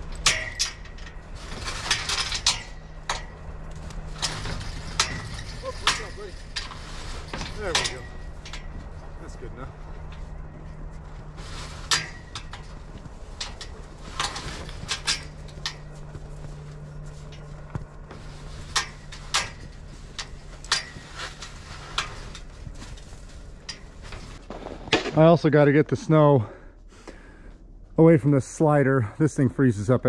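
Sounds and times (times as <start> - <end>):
metal gate clanking and rattling: 0.0 - 25.6
steady low hum: 0.0 - 30.0.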